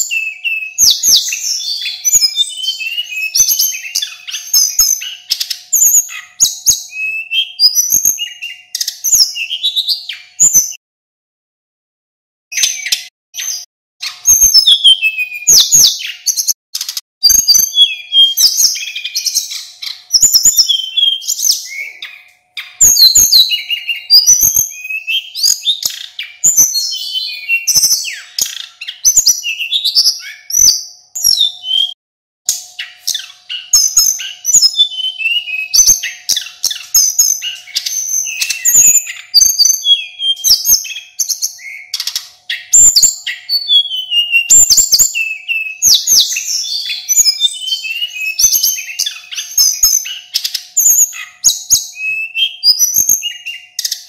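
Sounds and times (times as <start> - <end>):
bird singing high whistled phrases: 0.0 - 10.8, 12.5 - 32.0, 32.8 - 54.0.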